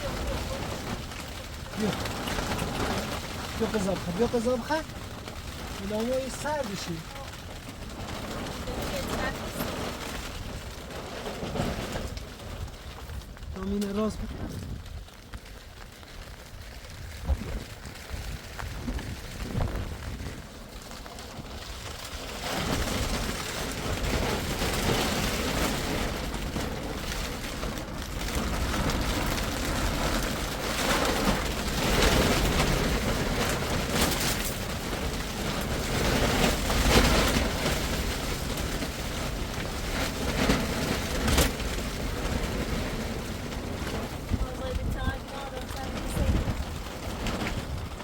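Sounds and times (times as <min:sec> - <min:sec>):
rain: 0:00.0 - 0:48.0
stormy wind: 0:00.0 - 0:48.0
wind buffeting microphone: 0:00.0 - 0:48.0.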